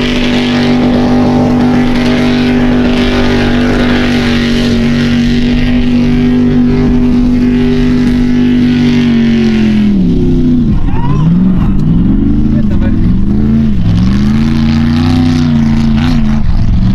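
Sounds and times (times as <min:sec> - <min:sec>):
car engine at high revs: 0:00.0 - 0:16.9.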